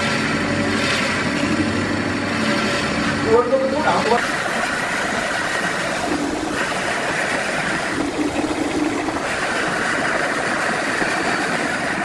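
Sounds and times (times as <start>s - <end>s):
wood lathe running: 0.0s - 12.0s.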